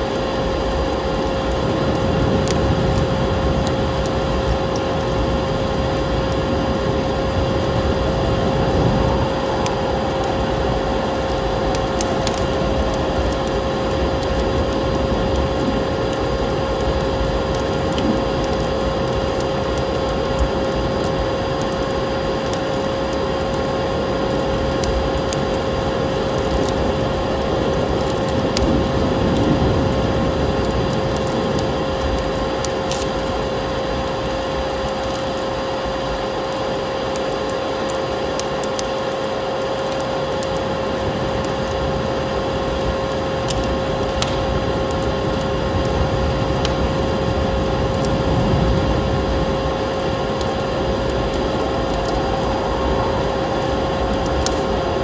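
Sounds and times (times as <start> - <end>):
steady rushing noise: 0.0 - 36.9, 37.7 - 55.0
constant hum: 0.0 - 55.0
wood fire crackling: 0.0 - 55.0.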